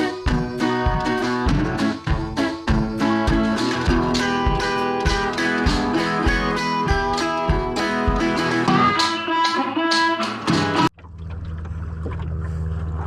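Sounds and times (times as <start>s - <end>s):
acoustic guitar over a steady beat: 0.0s - 10.9s.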